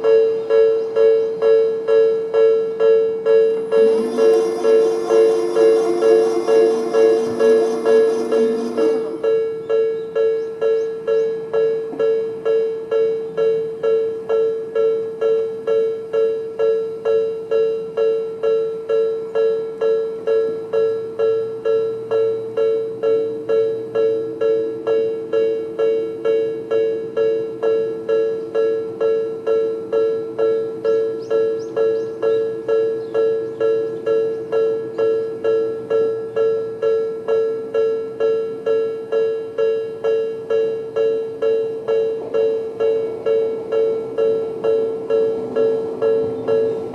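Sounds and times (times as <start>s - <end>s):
level crossing warning bell: 0.0s - 46.9s.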